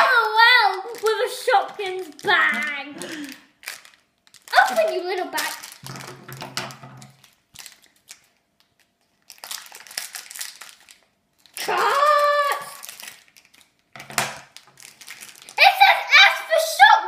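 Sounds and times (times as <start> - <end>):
plastic bag crinkling: 0.0 - 16.1.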